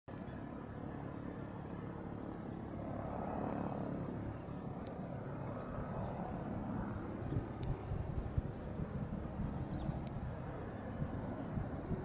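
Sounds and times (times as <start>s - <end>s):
low outdoor rumble: 0.1s - 12.0s.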